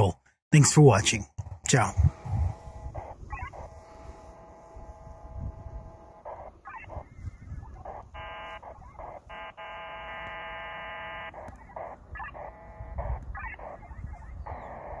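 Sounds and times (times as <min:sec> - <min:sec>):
buzzing tone: 0:01.4 - 0:15.0
wavering chirps: 0:02.1 - 0:15.0.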